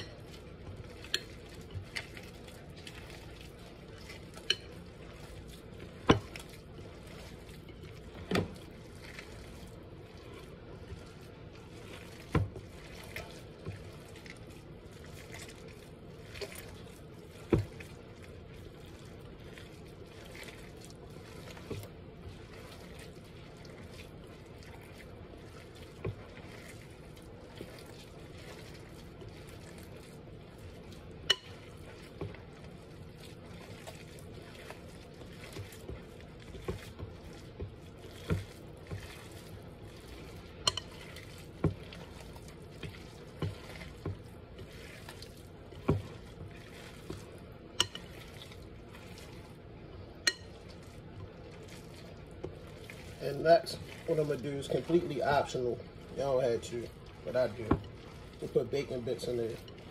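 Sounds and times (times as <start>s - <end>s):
wet squishing of mixture being stirred: 0.0s - 59.9s.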